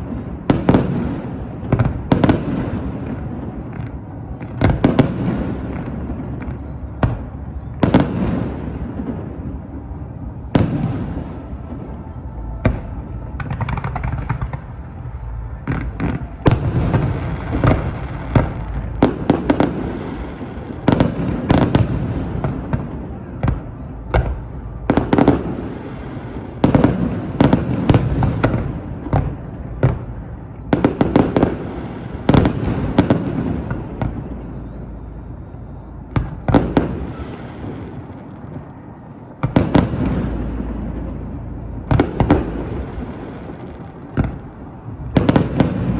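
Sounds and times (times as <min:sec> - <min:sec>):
continuous rumble: 0:00.0 - 0:45.9
rolling echo: 0:00.0 - 0:45.9.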